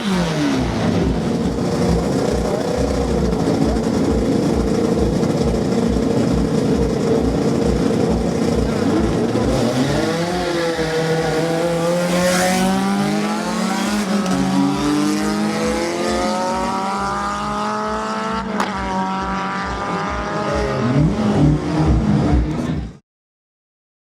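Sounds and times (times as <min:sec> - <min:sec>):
racing car engine revving: 0:00.0 - 0:23.0.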